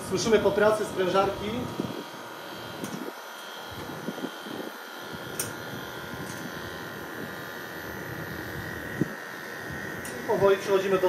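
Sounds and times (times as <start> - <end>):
compressor buzzing hum: 0.0 - 11.0.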